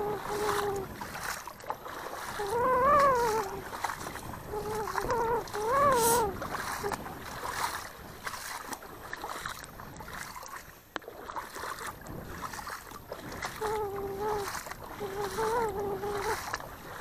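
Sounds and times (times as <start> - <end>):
oars splashing in water: 0.0 - 17.0.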